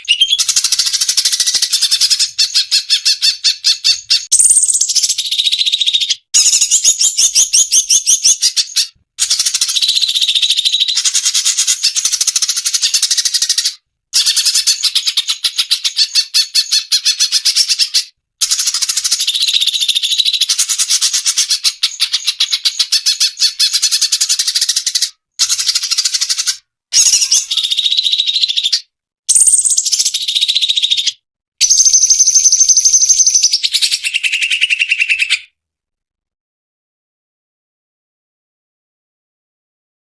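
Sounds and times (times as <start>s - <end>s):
bird chattering trills: 0.0s - 35.5s.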